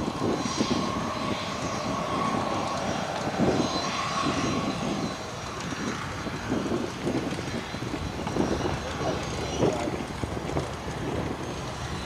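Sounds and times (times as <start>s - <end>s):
propeller aircraft engine running: 0.0s - 12.0s.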